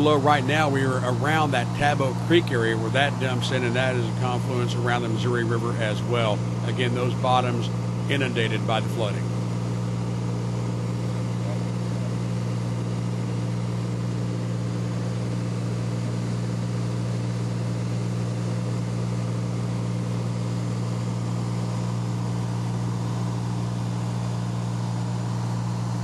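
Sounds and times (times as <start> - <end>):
light plane engine droning: 0.0 - 26.0.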